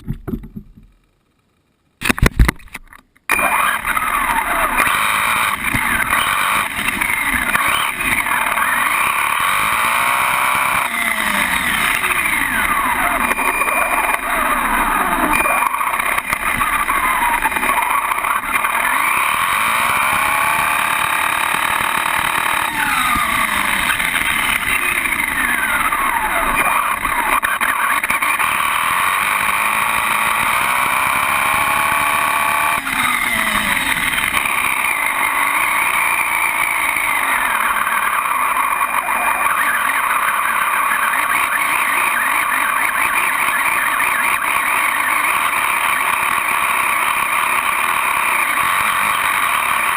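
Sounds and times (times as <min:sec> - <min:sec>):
radio-controlled car motor whining: 0:03.3 - 0:49.9.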